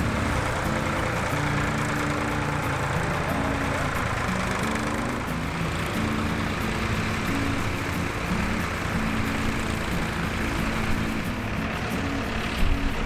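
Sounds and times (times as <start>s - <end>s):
low tune of held notes: 0.0s - 13.0s
tractor engine rumbling: 0.0s - 13.0s.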